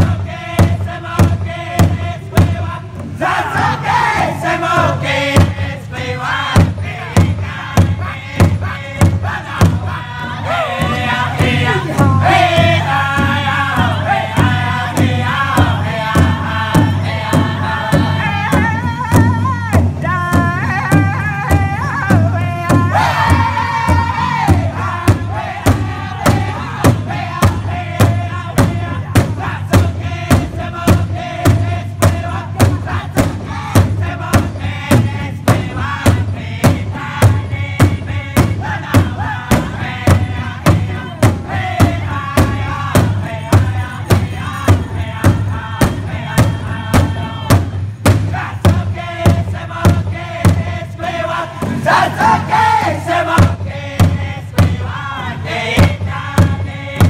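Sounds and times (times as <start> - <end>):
large hide drum beating: 0.0 - 57.0
men singing in unison: 0.0 - 57.0.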